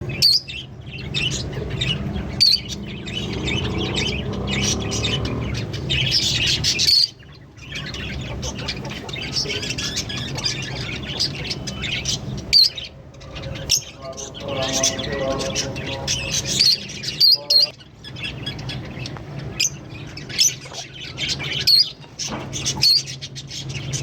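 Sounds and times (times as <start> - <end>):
lovebirds chirping and chattering: 0.0 - 24.0.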